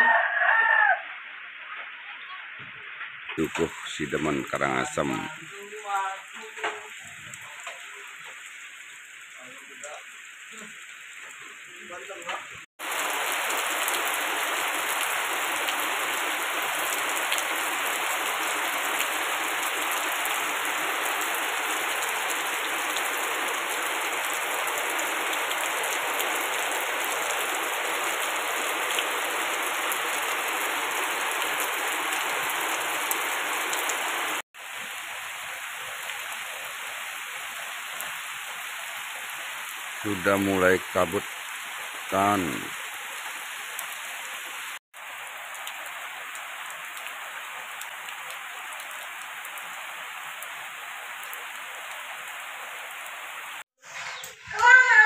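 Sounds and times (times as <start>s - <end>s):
heavy rain pouring: 1.2s - 55.0s.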